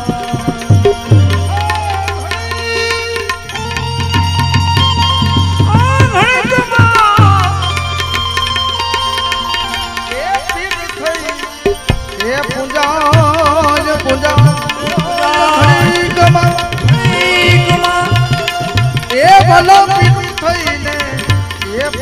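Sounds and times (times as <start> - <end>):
hand-drum strokes: 0.0 - 22.0.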